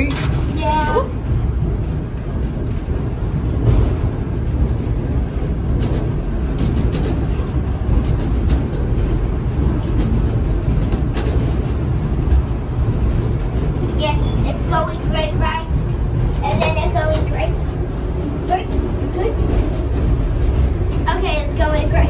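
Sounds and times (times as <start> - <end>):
train car rumbling on rails: 0.0 - 22.0.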